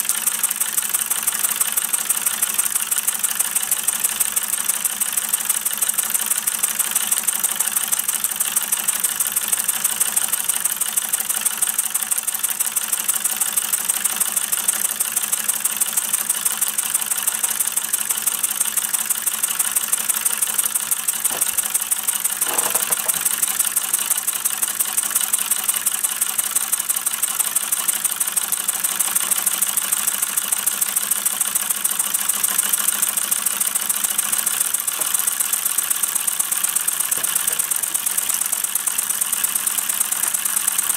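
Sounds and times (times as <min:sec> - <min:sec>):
steam engine exhaust chuffs: 0:00.0 - 0:40.9.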